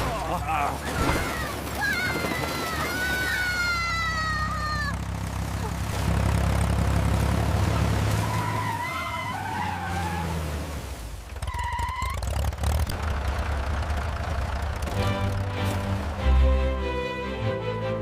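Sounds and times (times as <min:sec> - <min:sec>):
vehicle engine rumbling: 0:00.0 - 0:17.4.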